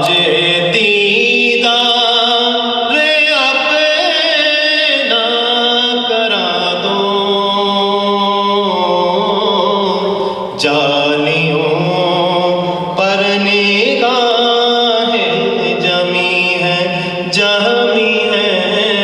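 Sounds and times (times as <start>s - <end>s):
person singing unaccompanied: 0.0s - 19.0s.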